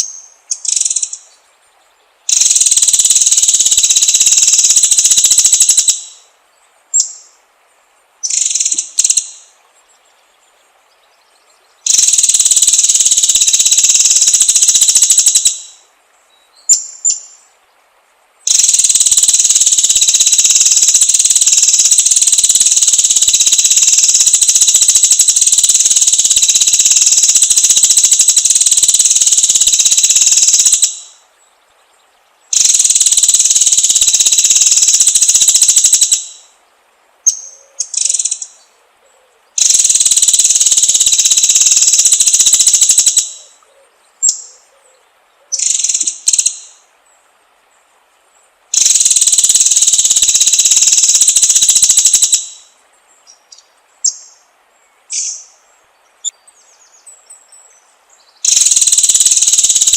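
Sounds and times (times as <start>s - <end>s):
bird song high-pitched: 0.0s - 7.4s, 8.2s - 17.5s, 18.5s - 36.6s, 37.2s - 38.8s, 39.4s - 46.9s, 48.7s - 59.9s.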